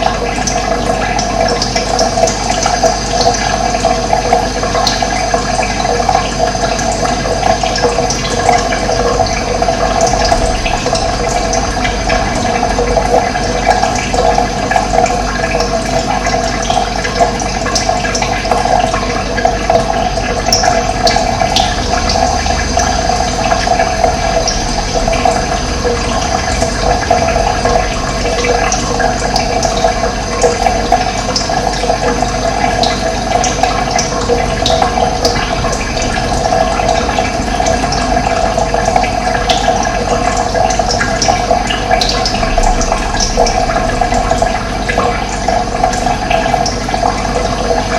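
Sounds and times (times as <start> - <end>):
running water rushing: 0.0 - 47.9.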